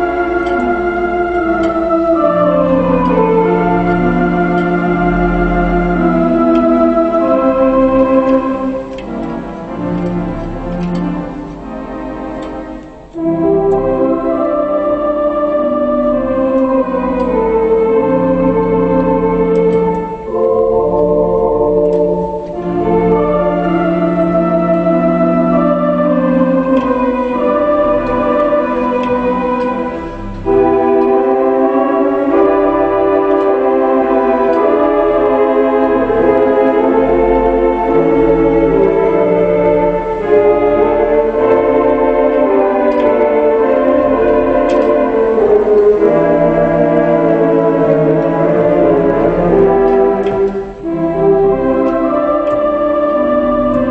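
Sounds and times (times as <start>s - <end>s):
organ playing sustained chords: 0.0s - 53.9s.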